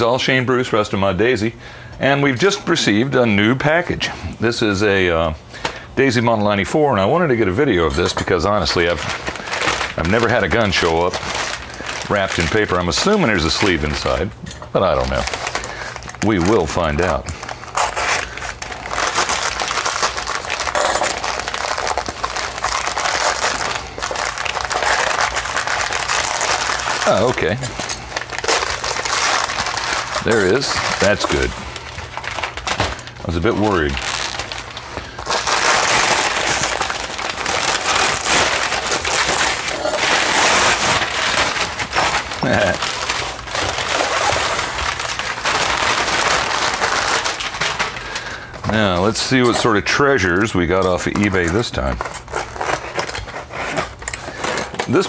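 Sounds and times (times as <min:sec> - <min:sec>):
paper wrapping crinkling: 0:06.2 - 0:55.0.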